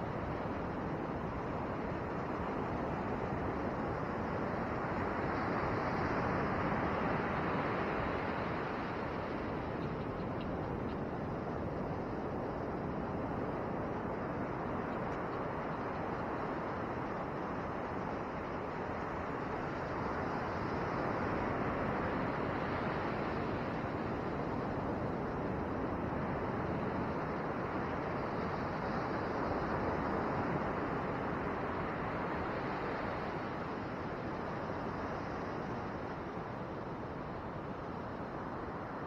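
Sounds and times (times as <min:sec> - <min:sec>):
ocean surf breaking on beach: 0:00.0 - 0:39.0.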